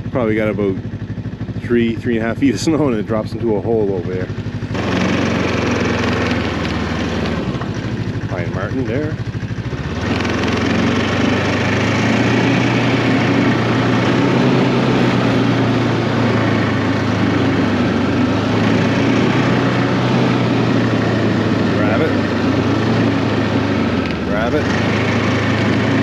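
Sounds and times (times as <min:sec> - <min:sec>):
snowmobile engine running: 0:00.0 - 0:26.0.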